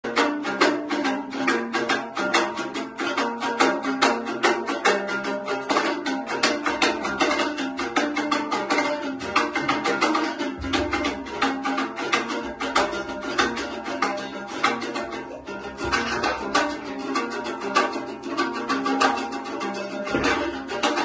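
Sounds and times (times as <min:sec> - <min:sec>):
lute fast strumming: 0:00.0 - 0:21.0.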